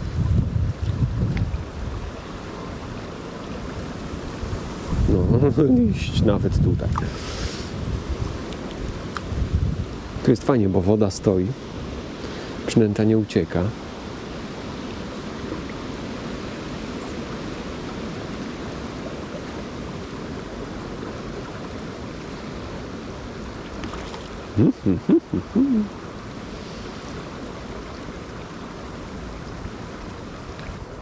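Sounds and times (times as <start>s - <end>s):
river rushing: 1.0s - 6.2s, 7.0s - 31.0s.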